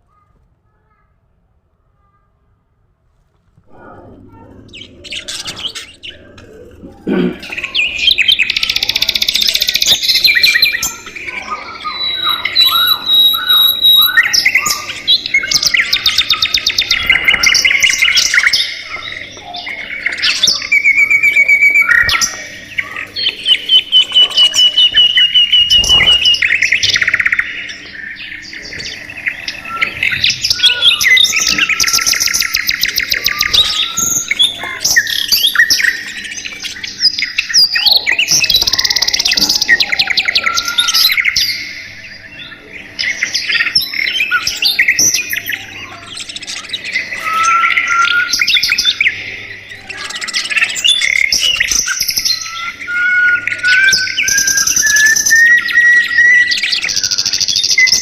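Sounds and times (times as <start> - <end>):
budgerigars chattering and warbling: 3.9 - 58.0.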